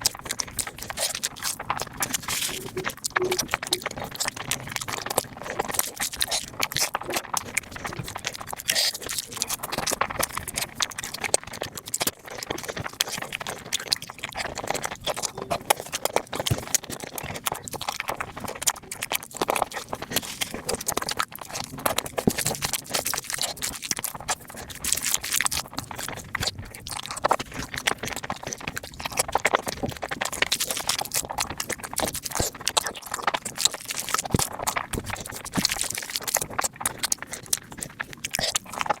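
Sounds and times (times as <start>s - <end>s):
fast chewing and mouth clicks: 0.0s - 39.0s.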